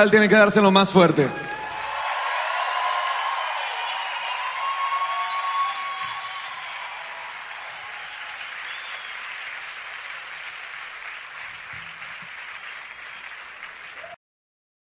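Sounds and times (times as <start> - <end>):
audience applauding: 1.5 - 14.2.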